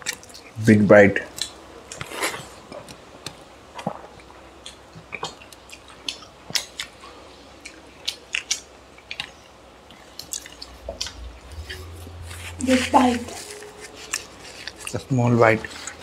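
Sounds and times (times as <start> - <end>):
wet chewing: 1.3 - 11.9, 13.2 - 16.0.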